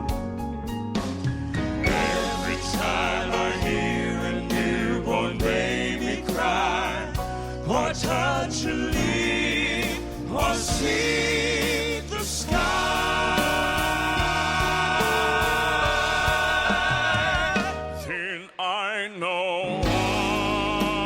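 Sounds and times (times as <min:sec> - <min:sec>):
band accompaniment: 0:00.0 - 0:18.1, 0:19.8 - 0:21.0
male vocal quartet singing: 0:01.8 - 0:21.0.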